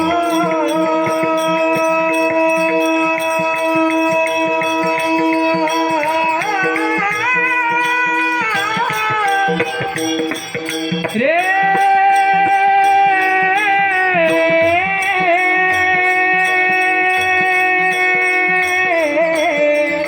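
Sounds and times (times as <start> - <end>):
harmonium drone: 0.0 - 20.0
percussion beat: 0.0 - 20.0.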